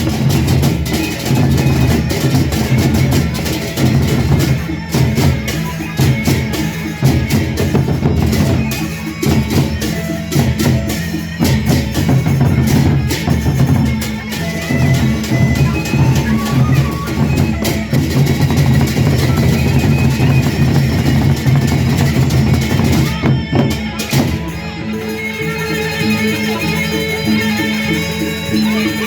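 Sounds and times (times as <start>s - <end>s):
drum ensemble playing fast: 0.0s - 29.0s.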